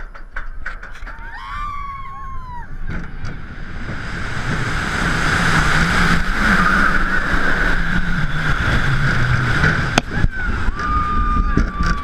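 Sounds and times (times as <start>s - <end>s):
roller coaster wheels on track: 0.0s - 12.0s
wind rushing over microphone: 1.8s - 12.0s.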